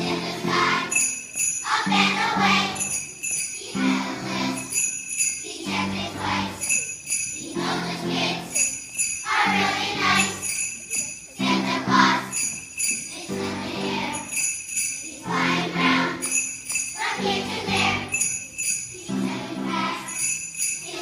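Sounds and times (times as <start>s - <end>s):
children's choir singing: 0.0s - 21.0s
small bells shaking: 0.3s - 21.0s.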